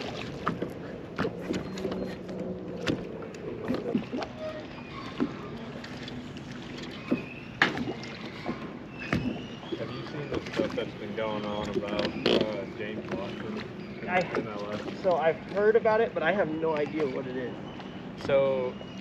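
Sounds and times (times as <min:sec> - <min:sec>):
water: 0:00.0 - 0:19.0
wind: 0:00.0 - 0:19.0.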